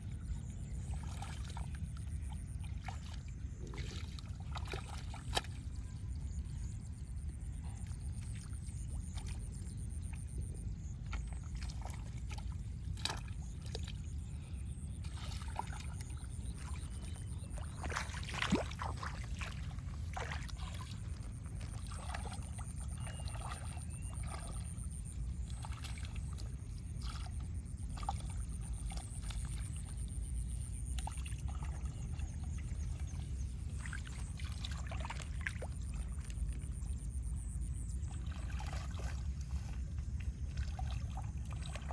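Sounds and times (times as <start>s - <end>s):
steady low rumble: 0.0s - 41.9s
water splashing and sloshing: 0.0s - 41.9s.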